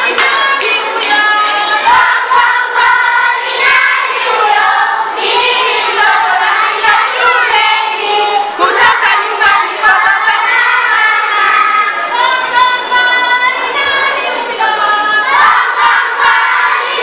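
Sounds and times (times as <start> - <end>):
children singing in chorus: 0.0 - 17.0.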